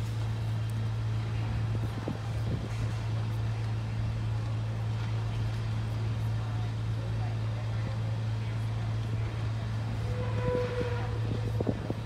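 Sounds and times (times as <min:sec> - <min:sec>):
ship engine droning: 0:00.0 - 0:12.0.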